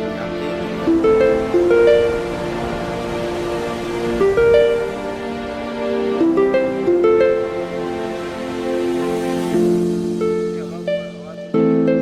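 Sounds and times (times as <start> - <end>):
gentle melody of ringing notes: 0.0 - 12.0.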